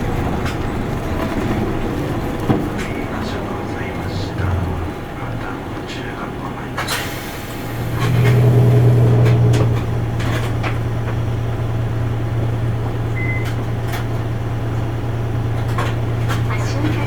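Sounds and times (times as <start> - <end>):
bus diesel engine: 0.0 - 17.0
interior rattles and clicks: 0.0 - 17.0.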